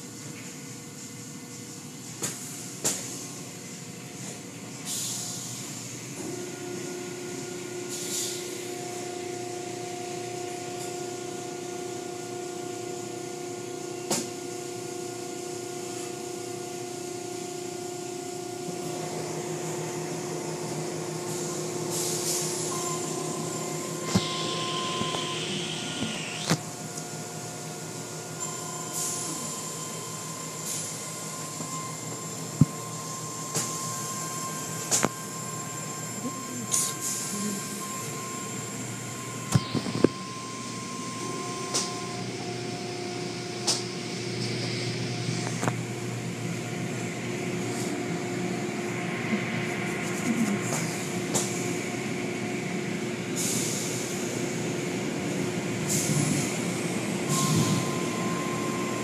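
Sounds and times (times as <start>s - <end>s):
car wash machinery humming: 0.0s - 59.0s.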